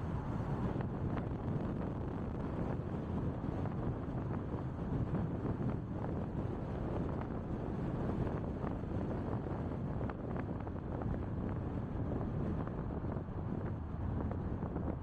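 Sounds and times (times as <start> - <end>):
car road noise: 0.0 - 15.0
wind on microphone: 0.0 - 15.0.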